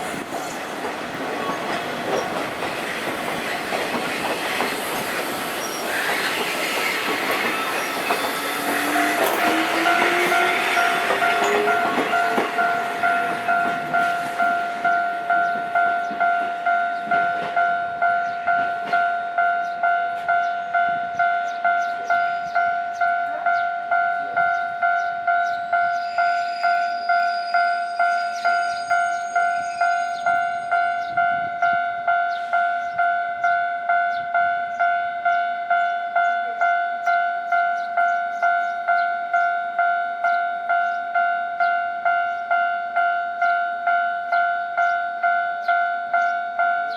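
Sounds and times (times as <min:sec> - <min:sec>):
passing train rumble: 0:00.0 - 0:46.9
level crossing warning bell ringing: 0:06.4 - 0:46.9.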